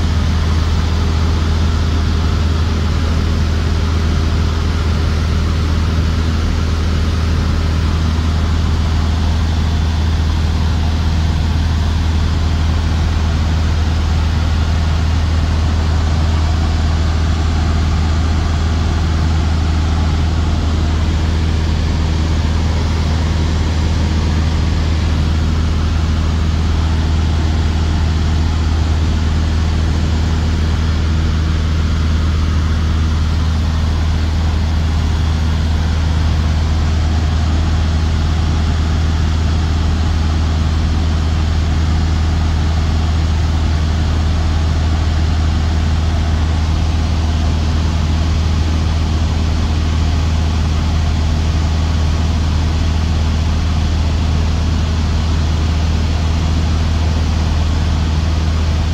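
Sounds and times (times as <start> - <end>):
aircraft engine and propeller droning: 0.0 - 58.9.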